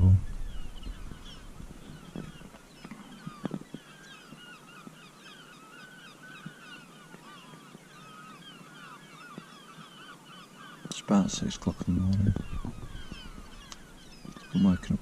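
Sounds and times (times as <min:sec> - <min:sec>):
seagulls calling: 0:00.0 - 0:15.0.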